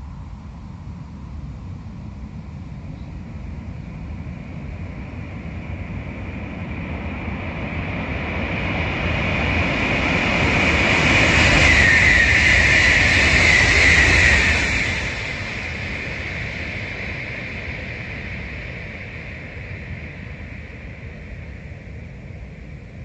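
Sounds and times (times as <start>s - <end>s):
high-speed train passing: 2.0s - 22.0s.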